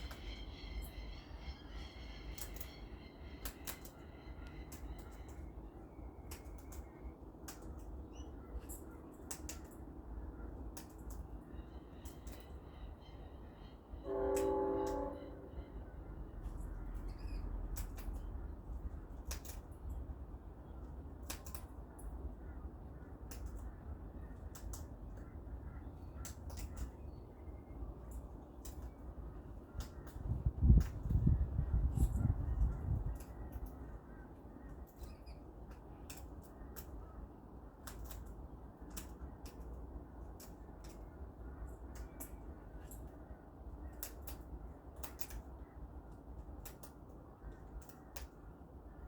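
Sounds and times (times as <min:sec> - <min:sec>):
birds crunching food: 0:01.7 - 0:13.6, 0:15.5 - 0:31.2, 0:32.7 - 0:49.0.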